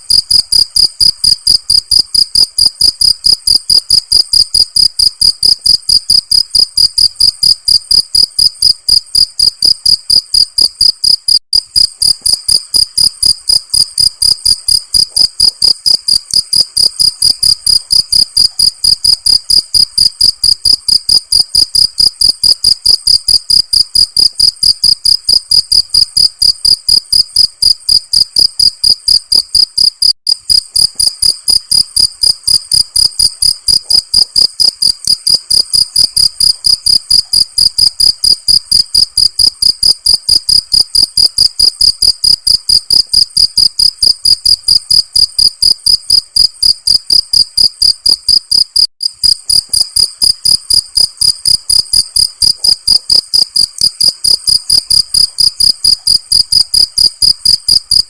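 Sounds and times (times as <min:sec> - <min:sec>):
cricket chirping: 0:00.1 - 0:58.0.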